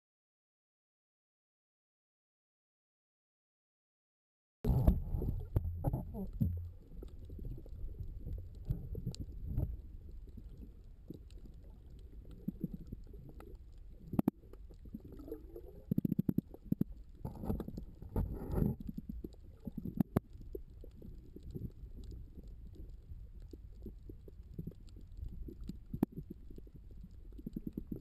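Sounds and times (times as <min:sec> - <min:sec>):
muffled underwater rumbling: 0:04.6 - 0:28.0
pops and bubbling: 0:04.7 - 0:28.0.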